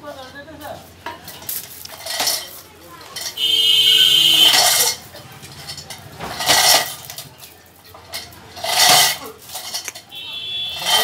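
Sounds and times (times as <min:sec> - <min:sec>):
metal chain clanking and rattling: 0:00.2 - 0:11.0.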